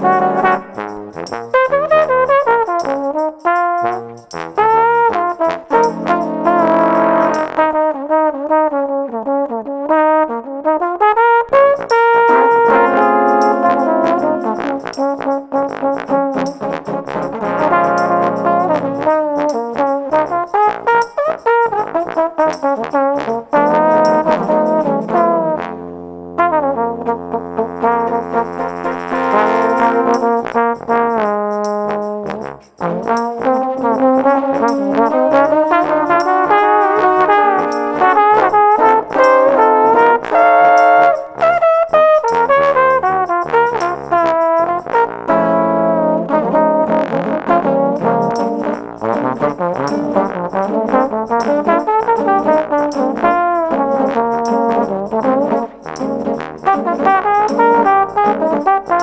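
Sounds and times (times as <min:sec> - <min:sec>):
tambourine shaken: 0:00.0 - 0:07.7, 0:11.8 - 0:25.4, 0:28.0 - 0:45.4, 0:46.5 - 0:59.0
bass trombone groove: 0:00.0 - 0:59.0
jazz on trombones: 0:00.0 - 0:59.0.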